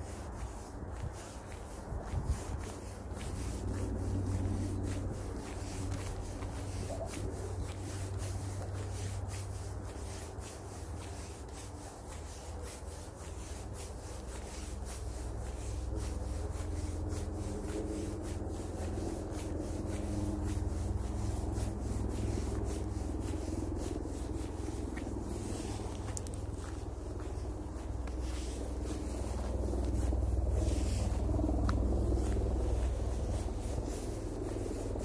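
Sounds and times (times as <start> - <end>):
footsteps scuffing along a path: 0.0 - 35.0.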